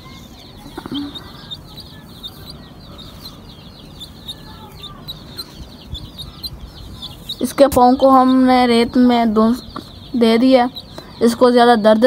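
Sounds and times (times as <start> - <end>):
baby chick peeping: 0.0 - 12.0.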